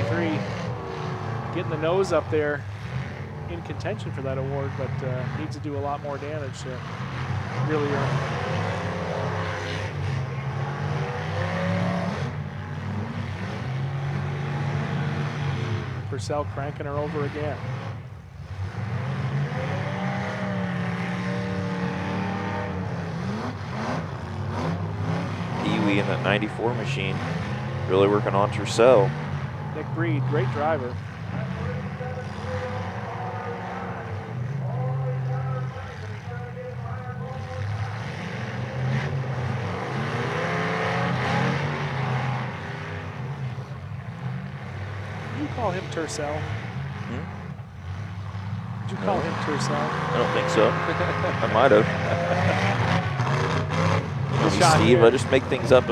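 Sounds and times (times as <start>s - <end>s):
car engines revving hard: 0.0s - 55.9s.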